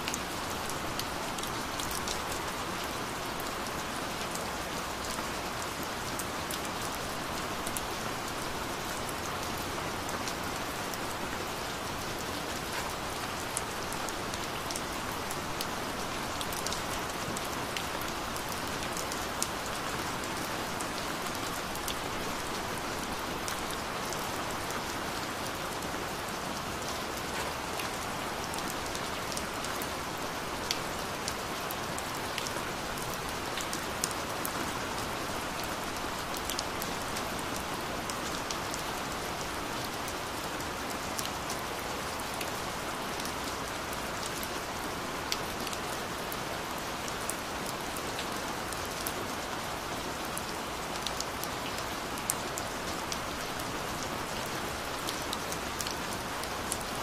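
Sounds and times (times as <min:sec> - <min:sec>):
gentle rain hiss: 0:00.0 - 0:57.0.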